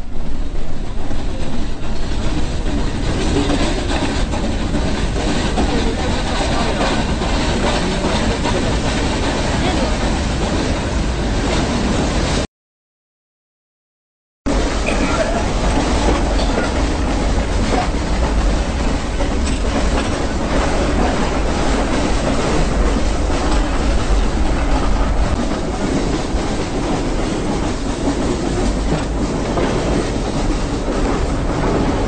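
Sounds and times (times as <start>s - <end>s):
train rumbling: 0.0s - 12.5s, 14.5s - 32.0s.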